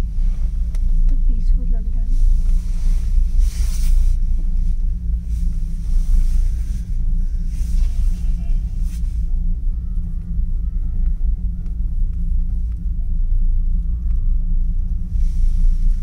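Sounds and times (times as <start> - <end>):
cable car rumble and hum: 0.0 - 16.0.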